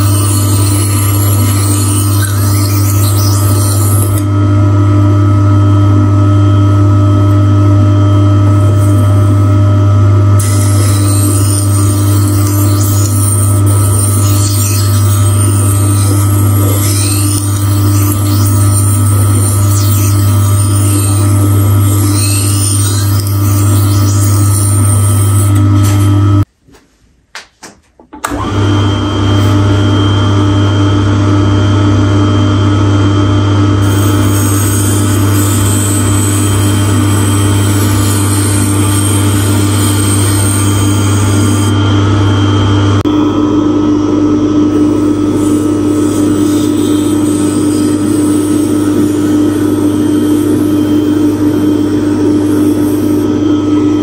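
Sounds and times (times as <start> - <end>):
electric motor humming: 0.0 - 26.5, 33.6 - 54.0.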